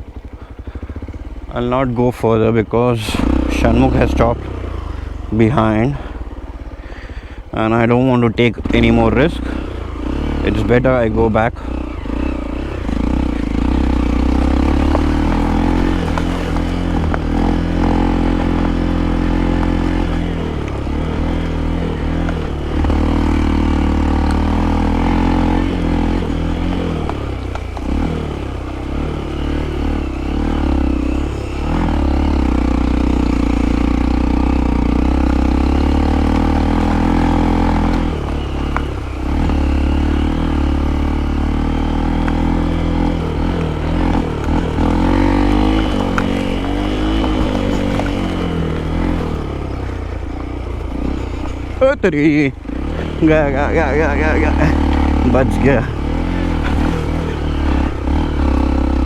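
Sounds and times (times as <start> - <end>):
motorcycle engine running under load: 0.0 - 59.0
motorcycle rattling: 0.0 - 59.0.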